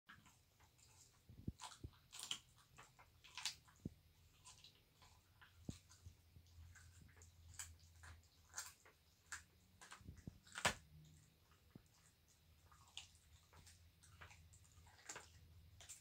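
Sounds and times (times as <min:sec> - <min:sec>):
animal chewing with wet crunches: 0:00.1 - 0:16.0.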